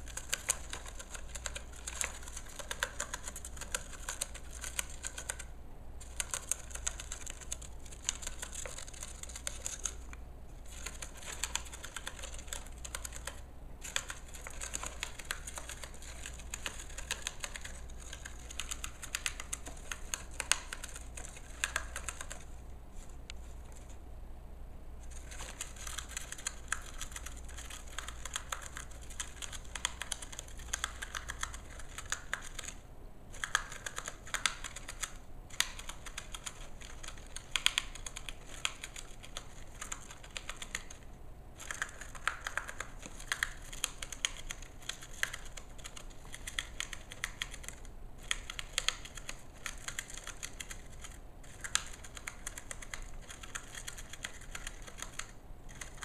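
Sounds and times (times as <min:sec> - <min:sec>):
gerbil gnawing cardboard: 0:00.0 - 0:24.0, 0:25.0 - 0:56.0.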